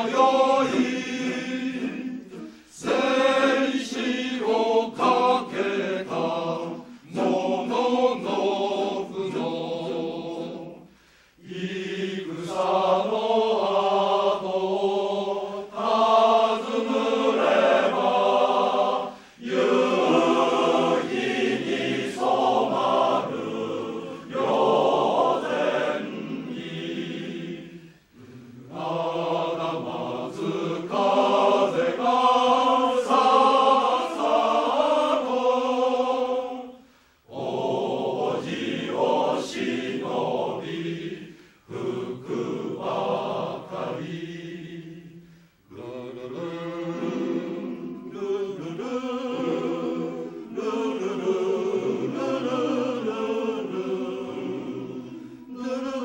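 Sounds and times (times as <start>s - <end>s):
men's choir singing: 0.0s - 56.0s.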